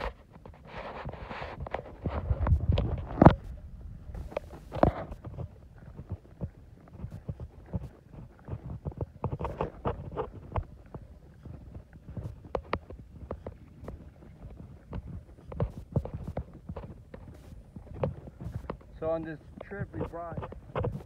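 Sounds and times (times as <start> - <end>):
footsteps on rocky trail: 0.0 - 21.0.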